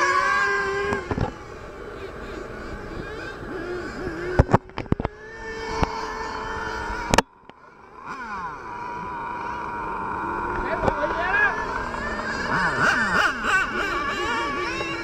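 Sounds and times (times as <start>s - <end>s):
model car engine revving: 0.0s - 15.0s.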